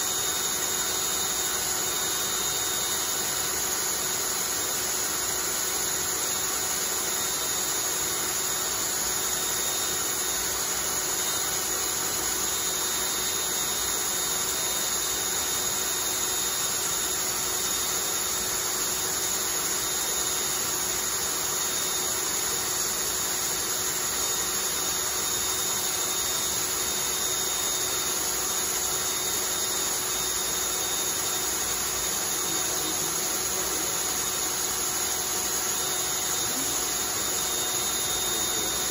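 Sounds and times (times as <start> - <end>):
drill spinning rotor whirring: 0.0 - 38.9.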